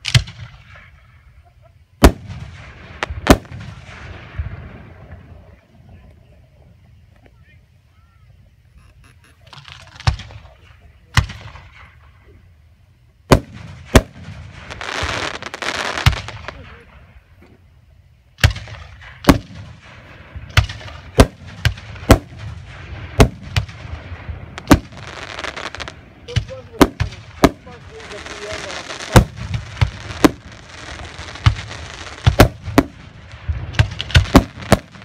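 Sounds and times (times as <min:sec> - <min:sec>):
firework shells booming: 0:00.0 - 0:05.6, 0:09.4 - 0:12.4, 0:13.2 - 0:17.6, 0:18.4 - 0:35.0
firework hiss: 0:00.0 - 0:05.8, 0:08.4 - 0:35.0.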